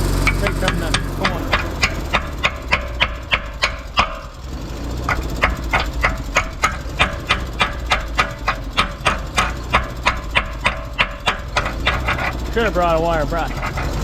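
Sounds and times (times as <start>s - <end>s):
hammer striking steel: 0.0s - 12.8s
welder engine running: 0.0s - 14.0s.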